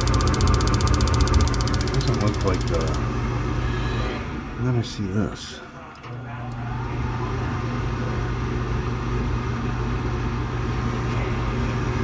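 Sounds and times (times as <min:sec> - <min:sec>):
furnace fan motor humming: 0:00.0 - 0:12.0.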